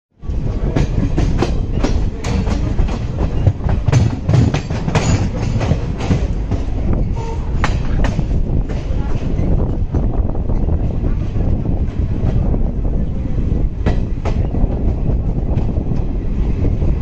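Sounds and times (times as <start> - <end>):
wheels clattering over rails: 0.2 - 16.7
train rumble: 0.2 - 17.0
wind rushing: 0.2 - 17.0.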